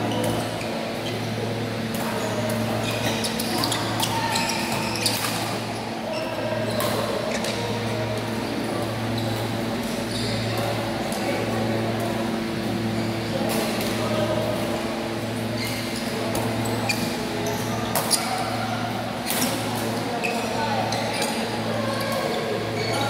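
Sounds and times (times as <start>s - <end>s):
players' voices: 0.0s - 23.0s.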